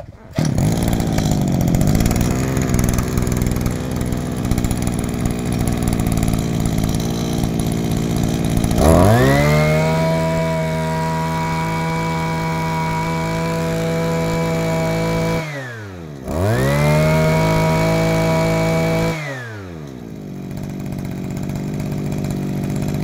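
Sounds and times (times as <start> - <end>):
brush cutter engine revving and idling: 0.0 - 23.0.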